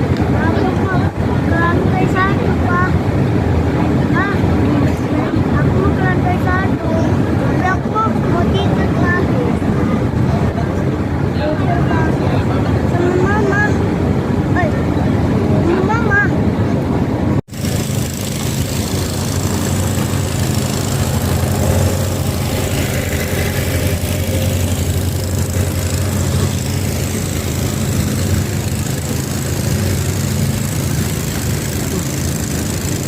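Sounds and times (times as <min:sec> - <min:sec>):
engine droning: 0:00.0 - 0:33.0
rushing noise: 0:00.0 - 0:33.0.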